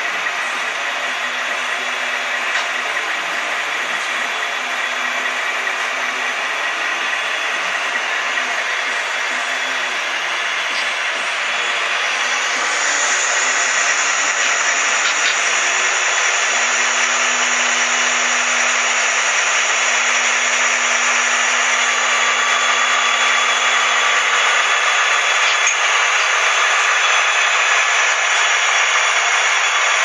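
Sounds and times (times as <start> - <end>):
model train motor whirring: 0.0 - 30.0
low hum: 0.1 - 30.0.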